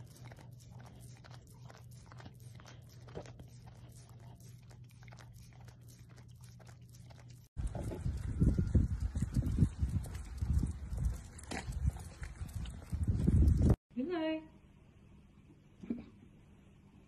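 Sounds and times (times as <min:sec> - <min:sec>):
dog licking: 0:00.0 - 0:13.8
low steady hum: 0:00.0 - 0:17.0.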